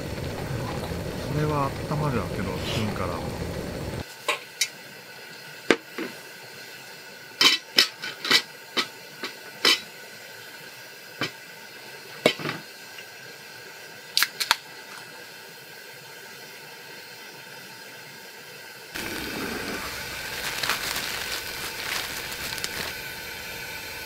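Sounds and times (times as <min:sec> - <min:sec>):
steady hiss: 0:00.0 - 0:14.0, 0:18.3 - 0:24.0.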